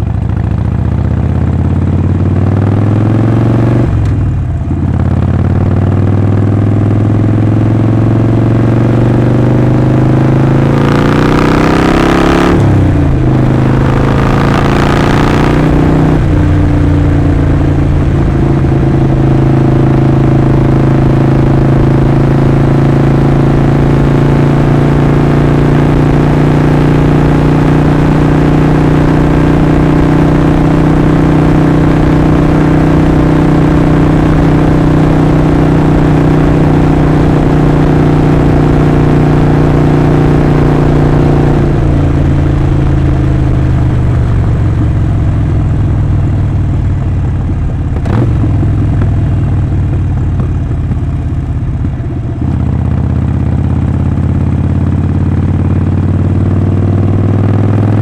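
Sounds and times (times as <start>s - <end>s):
motorcycle exhaust note: 0.0s - 58.0s
wind and road noise: 0.0s - 58.0s.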